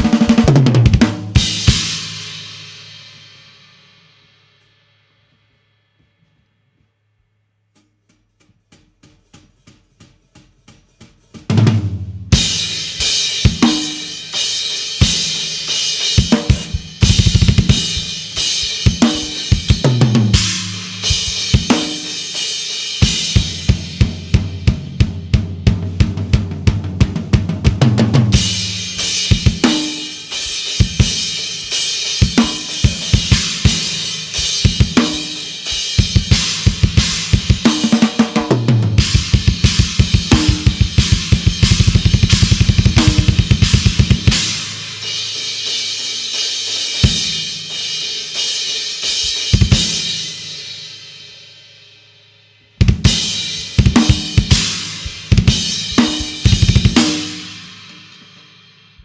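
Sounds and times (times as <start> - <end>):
rock drum kit playing: 0.0 - 3.5, 8.9 - 51.1, 52.8 - 59.0.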